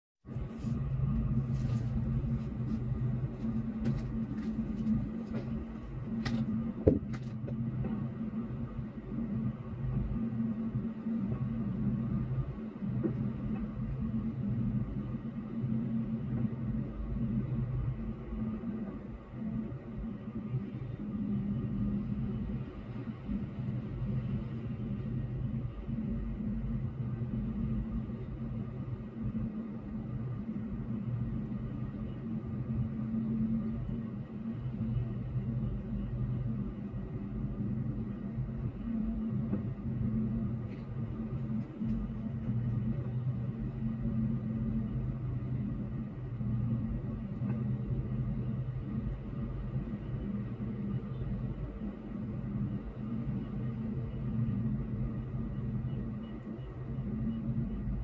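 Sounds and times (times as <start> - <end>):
hum: 0.2 - 58.0.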